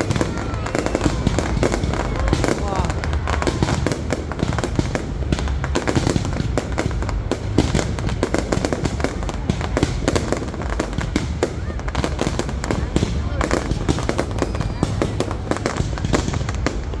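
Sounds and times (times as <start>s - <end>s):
fireworks bangs and crackling: 0.0s - 17.0s
low rumble of booms: 0.0s - 17.0s.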